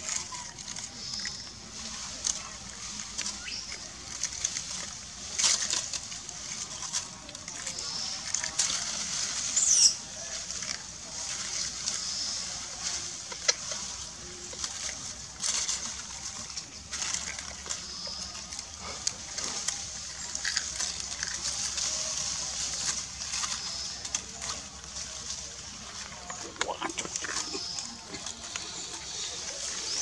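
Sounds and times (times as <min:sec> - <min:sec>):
rustling on dry leaves: 0:00.0 - 0:30.0.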